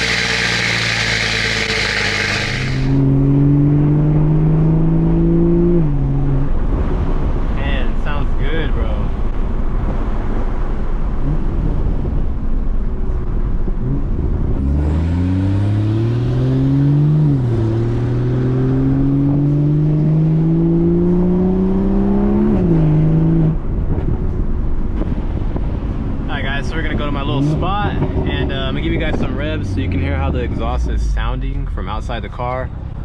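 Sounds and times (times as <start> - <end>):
car engine accelerating: 0.0 - 7.5, 9.1 - 31.3
road noise: 0.0 - 33.0.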